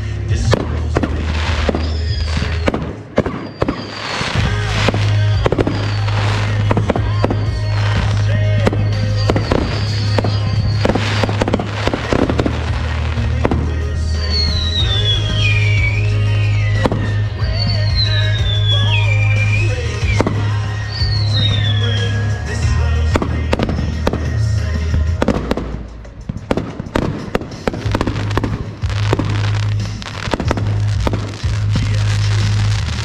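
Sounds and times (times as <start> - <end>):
background music: 0.0 - 33.0
fireworks bangs and crackles: 0.0 - 33.0
firework whistles: 0.4 - 24.5, 26.5 - 33.0.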